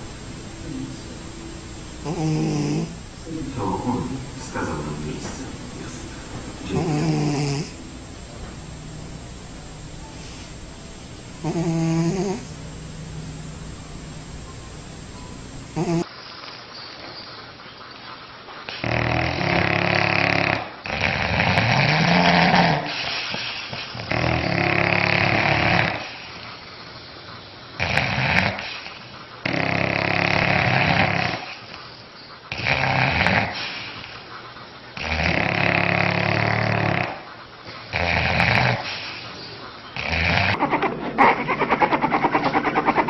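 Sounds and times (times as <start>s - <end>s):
dogs snoring loudly: 0.8s - 12.7s, 15.6s - 16.1s, 18.7s - 26.7s, 27.8s - 43.0s.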